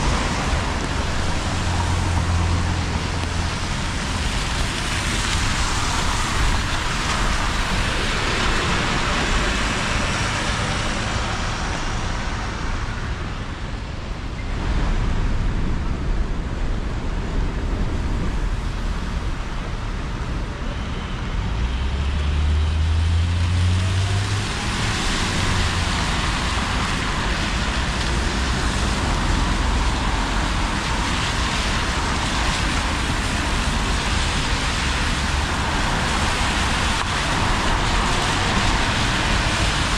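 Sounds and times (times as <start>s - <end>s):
heavy engine low drone: 0.0s - 39.9s
tyres hissing on wet road: 0.0s - 39.9s.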